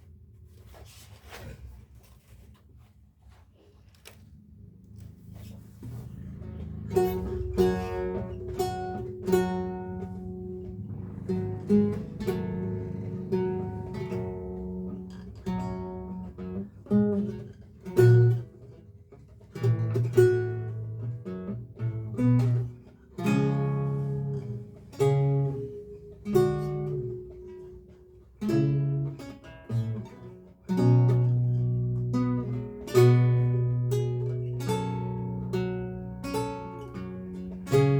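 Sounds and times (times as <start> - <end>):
lute playing: 4.4 - 37.9.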